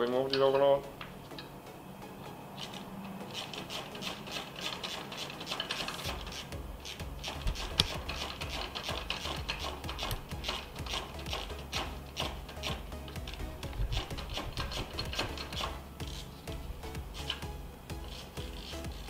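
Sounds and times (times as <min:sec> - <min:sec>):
ratchet wrench clicking: 0:02.6 - 0:16.3, 0:17.1 - 0:19.0.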